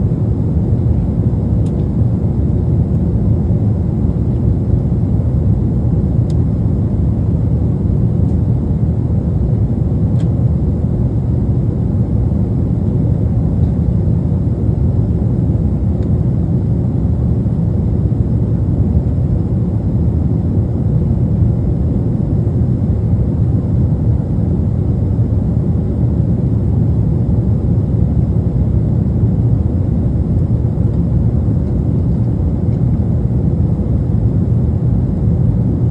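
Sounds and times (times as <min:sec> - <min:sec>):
jet engines rumbling in cabin: 0:00.0 - 0:35.9.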